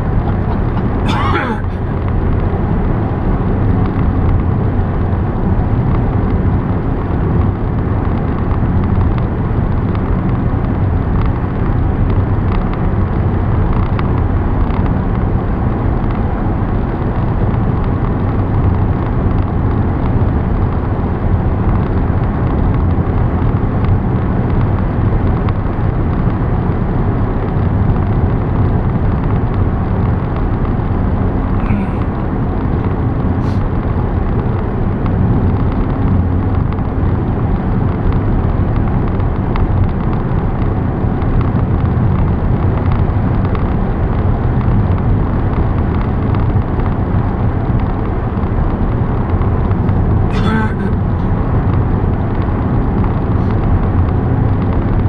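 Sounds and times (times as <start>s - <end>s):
car driving at highway speed: 0.0s - 55.0s.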